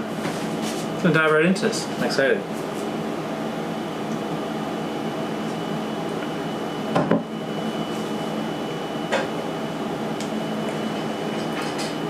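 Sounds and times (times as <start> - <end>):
mechanical room hum: 0.0 - 12.0.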